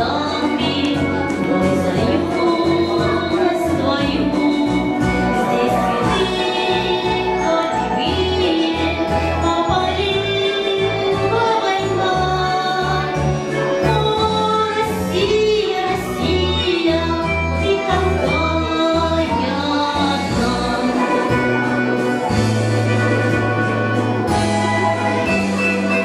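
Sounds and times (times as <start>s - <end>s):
woman singing into a microphone: 0.0s - 21.7s.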